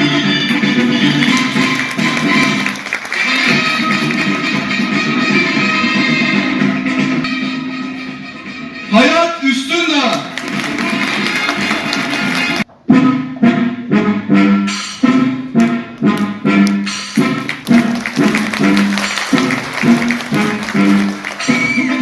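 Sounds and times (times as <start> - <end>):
instrumental music with brisk melody: 0.0 - 22.0.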